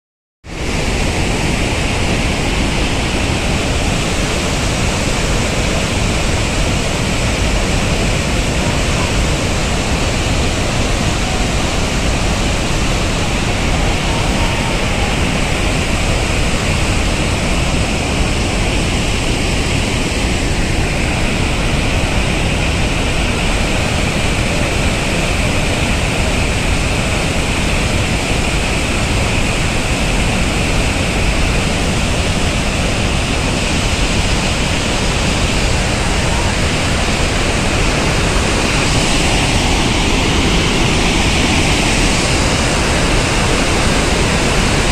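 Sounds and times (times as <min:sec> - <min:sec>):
rush of churning water: 0:00.5 - 0:44.9.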